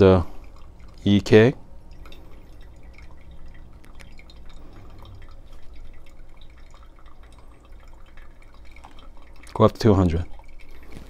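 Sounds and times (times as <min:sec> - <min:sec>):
coffee dripping: 0:00.0 - 0:11.0
water pouring onto coffee grounds: 0:00.0 - 0:11.0.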